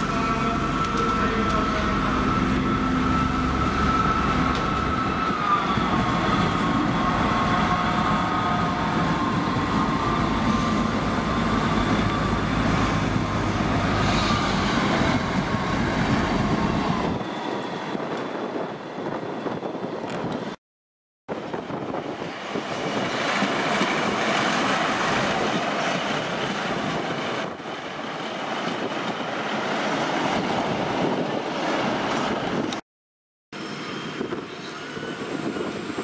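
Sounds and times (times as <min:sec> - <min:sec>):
diesel train rumble: 0:00.0 - 0:20.6, 0:21.3 - 0:32.8.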